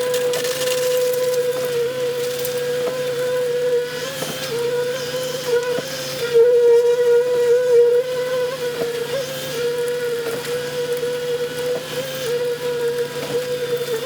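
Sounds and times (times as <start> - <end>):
machine motor whining: 0.0 - 14.0.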